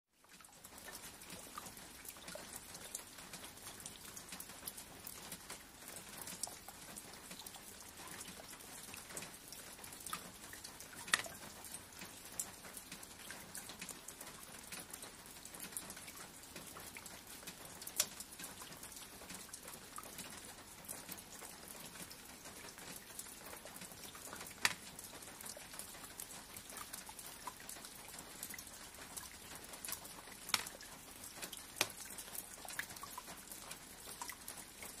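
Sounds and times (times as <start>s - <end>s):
steady rain: 0.1s - 35.0s
louder single raindrops: 0.3s - 35.0s.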